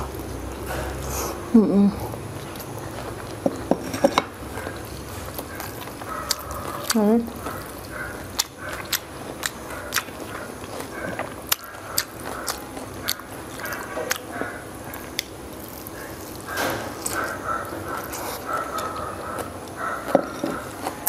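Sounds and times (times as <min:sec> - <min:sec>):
crunching and chewing crispy pancake: 0:02.1 - 0:21.0.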